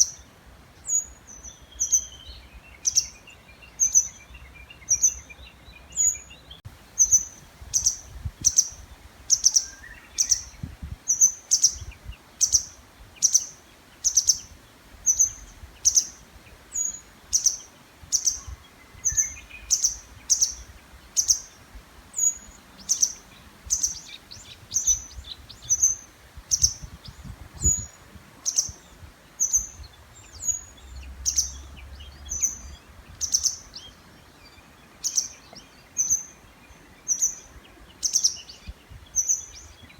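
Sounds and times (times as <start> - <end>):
faint warbler singing: 0.0 - 39.9
songbird calling: 0.0 - 39.9.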